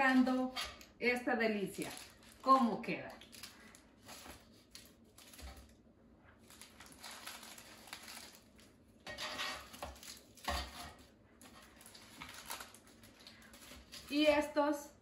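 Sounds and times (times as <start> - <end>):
wrapped food rustling: 1.6 - 14.5.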